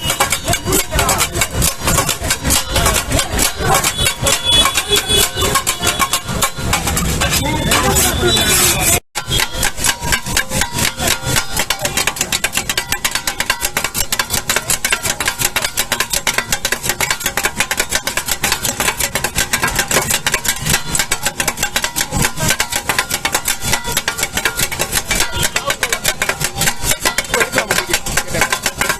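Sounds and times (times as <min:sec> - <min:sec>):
steel blades clanging on griddle: 0:00.0 - 0:28.9.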